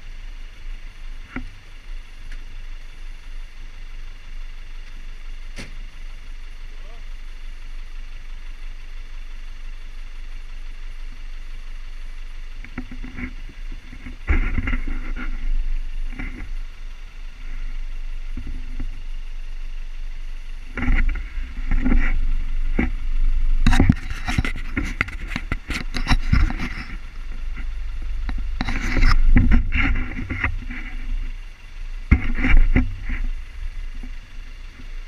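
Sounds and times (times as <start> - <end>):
off-road vehicle engine revving: 0.0 - 35.0.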